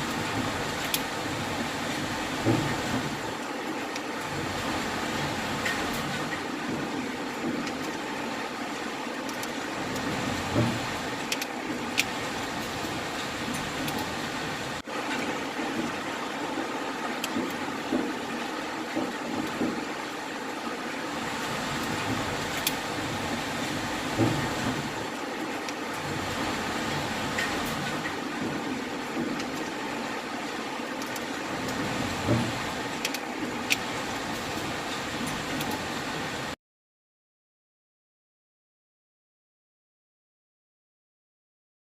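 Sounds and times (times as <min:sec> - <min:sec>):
hail and rain hissing: 0:00.0 - 0:36.6.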